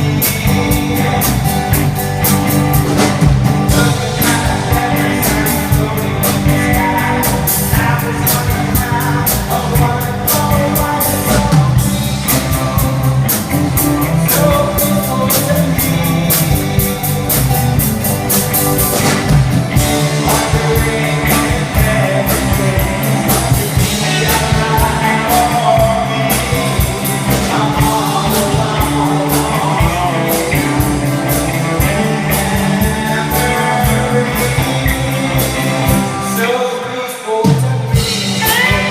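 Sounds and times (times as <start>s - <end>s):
person singing: 0.0s - 17.9s, 19.0s - 38.9s
drum kit: 0.0s - 38.9s
electric guitar: 0.0s - 38.9s.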